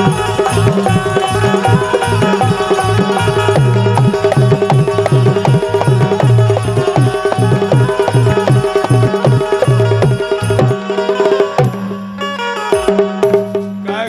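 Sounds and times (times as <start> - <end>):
fast hand-drum rhythm: 0.0 - 14.0
held melodic note: 0.0 - 14.0.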